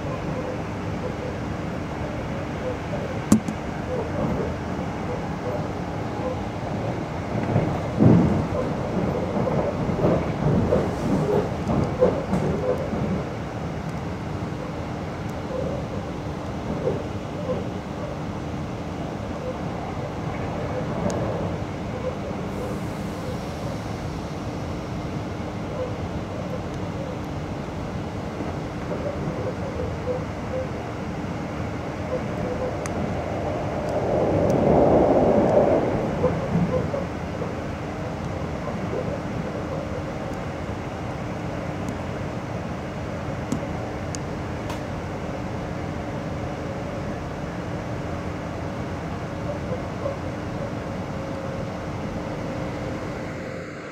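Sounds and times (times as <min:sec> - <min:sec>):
train wheels rumbling on rails: 0:00.0 - 0:53.2
constant low hum: 0:00.0 - 0:53.9.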